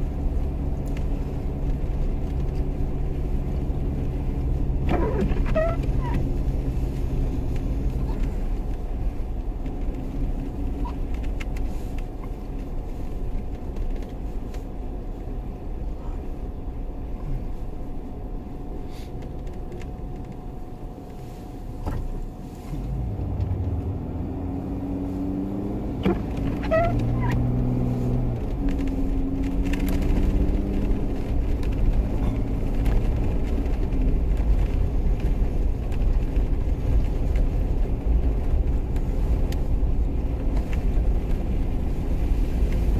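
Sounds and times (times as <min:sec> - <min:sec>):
engine rumbling: 0:00.0 - 0:42.9.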